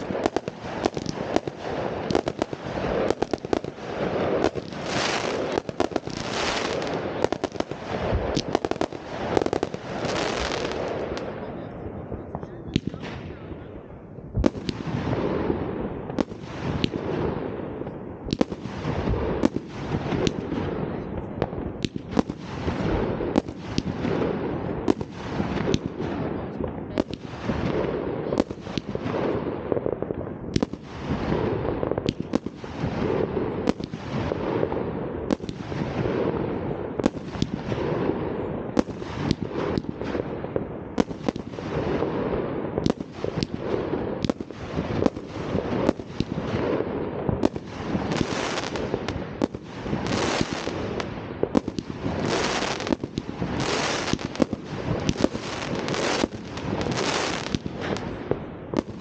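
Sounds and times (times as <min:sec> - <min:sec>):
fireworks crackle and hiss: 0:00.0 - 0:13.5, 0:14.4 - 0:59.0
fireworks banging: 0:00.0 - 0:59.0.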